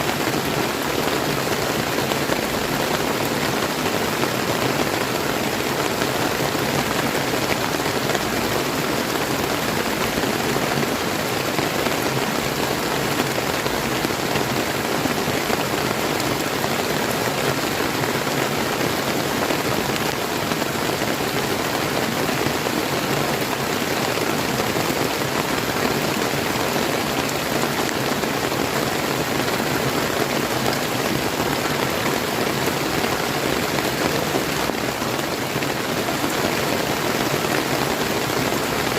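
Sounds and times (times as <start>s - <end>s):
rain falling: 0.0s - 38.9s
river flowing: 0.0s - 38.9s.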